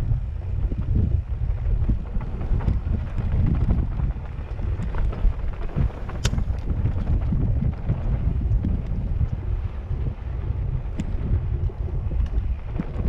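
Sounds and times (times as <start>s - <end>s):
bike clicks and rattles: 0.0s - 13.0s
wind buffeting microphone: 0.0s - 13.0s
tyres rolling on dirt and rock: 0.3s - 13.0s.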